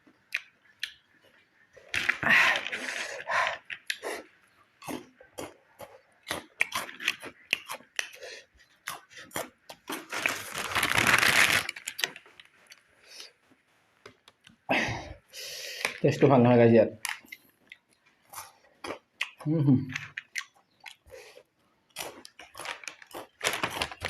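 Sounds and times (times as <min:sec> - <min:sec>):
chewing crisp chips: 0:00.3 - 0:12.9, 0:17.0 - 0:24.0.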